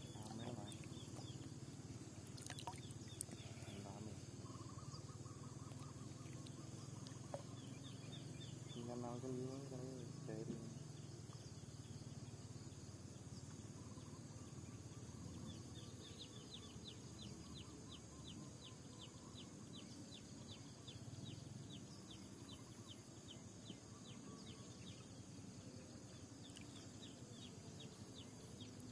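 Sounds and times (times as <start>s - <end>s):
bird chirping: 0.0s - 28.9s.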